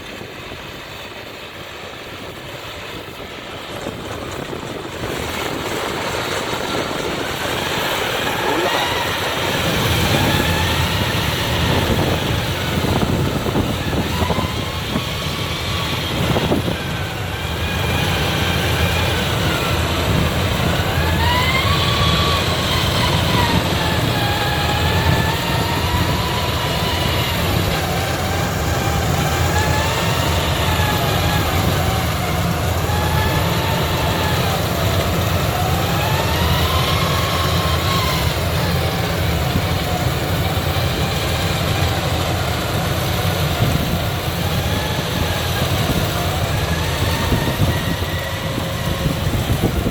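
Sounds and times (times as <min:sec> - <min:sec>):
combine harvester engine rumble: 0:00.0 - 0:49.9
machine whine: 0:00.0 - 0:49.9.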